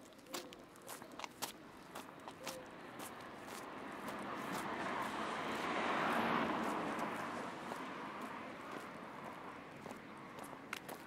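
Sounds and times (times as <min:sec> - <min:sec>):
vehicle passing by: 0:01.9 - 0:11.0.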